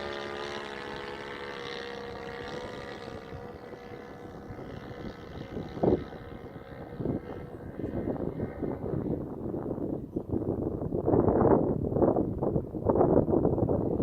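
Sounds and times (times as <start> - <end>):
model plane engine in flight: 0.0 - 14.0
wind thumping on microphone: 2.2 - 14.0.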